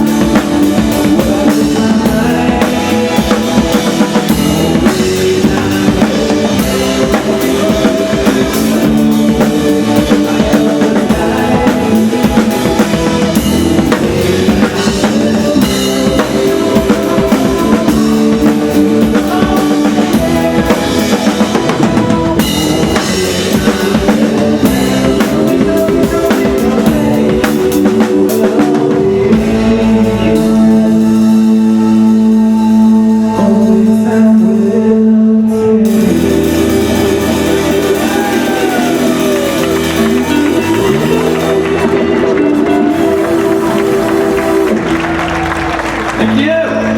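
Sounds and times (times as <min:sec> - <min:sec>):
drum kit steady beat: 0:00.0 - 0:34.5, 0:35.8 - 0:46.9
bass guitar: 0:00.0 - 0:46.9.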